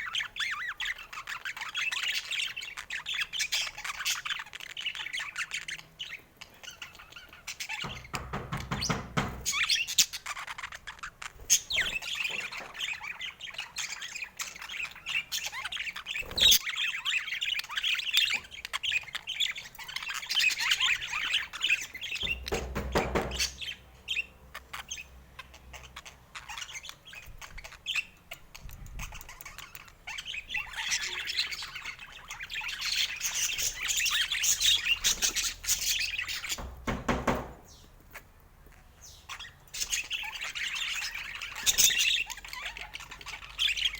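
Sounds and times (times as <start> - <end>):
budgerigars chirping and chattering: 0.0 - 43.9.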